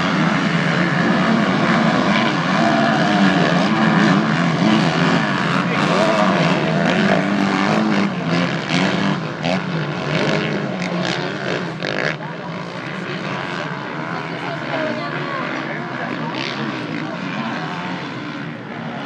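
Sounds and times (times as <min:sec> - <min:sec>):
dirt bikes and quads revving: 0:00.0 - 0:19.0.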